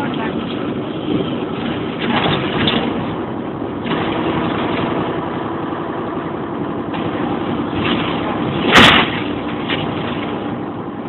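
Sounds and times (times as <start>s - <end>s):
diesel engine hum: 0.0s - 11.0s
tyre and road noise: 0.0s - 11.0s.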